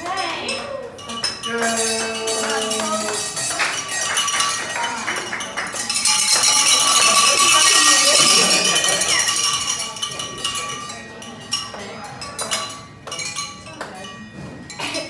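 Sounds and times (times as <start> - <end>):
handheld bells jangling: 0.0 - 15.0
voices: 0.0 - 15.0.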